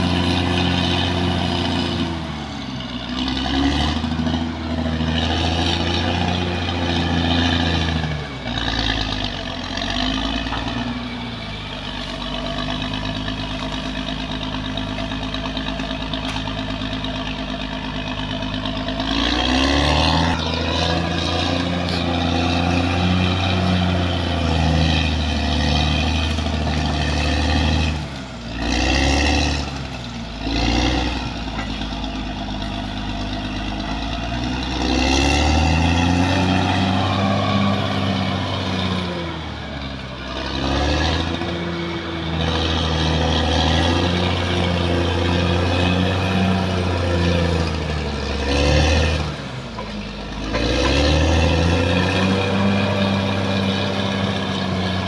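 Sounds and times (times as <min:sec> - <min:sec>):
bulldozer diesel engine under load: 0:00.0 - 0:55.0.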